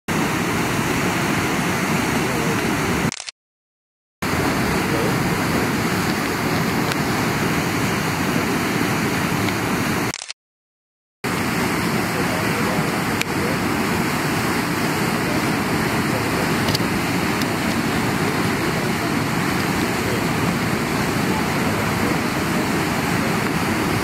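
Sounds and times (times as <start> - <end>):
rush of flowing water: 0.1 - 3.1, 4.2 - 10.1, 11.3 - 24.0.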